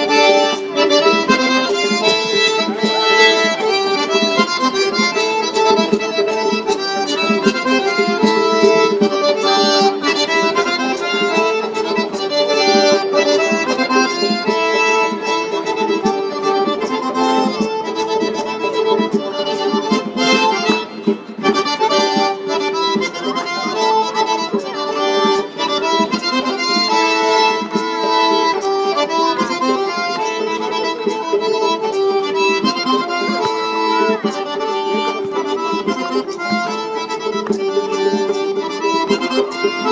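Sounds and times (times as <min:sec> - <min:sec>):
accordion dance music: 0:00.0 - 0:39.9.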